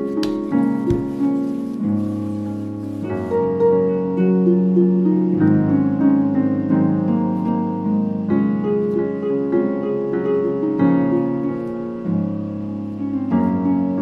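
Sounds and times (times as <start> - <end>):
plucked harp-like notes: 0.0 - 12.3
piano: 0.0 - 14.0.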